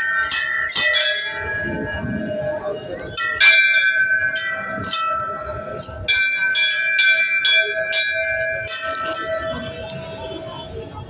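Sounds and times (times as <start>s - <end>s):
brass bell clanging: 0.0s - 2.2s, 3.2s - 10.0s.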